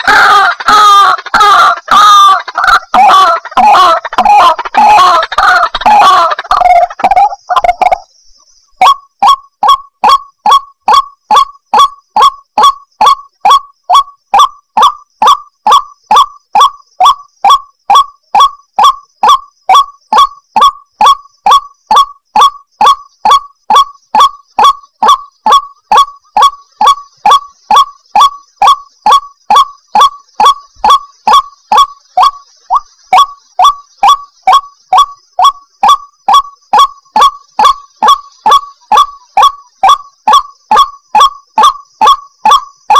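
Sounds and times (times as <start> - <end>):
waterhen calling: 0.0 - 8.2, 8.8 - 42.6.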